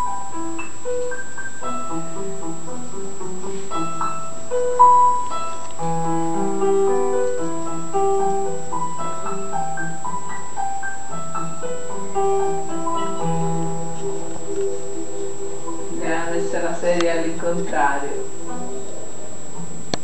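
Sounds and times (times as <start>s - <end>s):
piano music from television: 0.0s - 20.0s.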